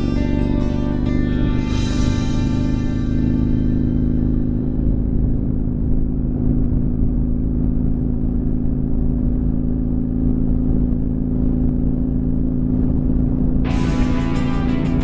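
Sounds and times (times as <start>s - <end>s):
motorcycle engine cruising: 0.0s - 15.0s
wind noise on microphone: 0.0s - 15.0s.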